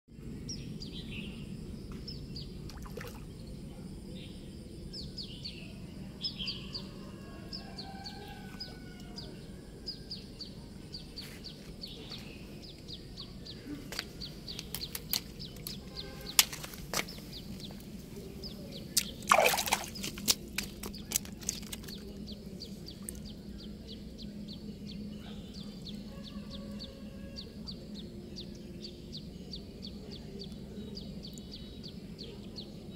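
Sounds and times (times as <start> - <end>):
small birds chirping: 0.1 - 32.9
steady low hum: 0.1 - 32.9.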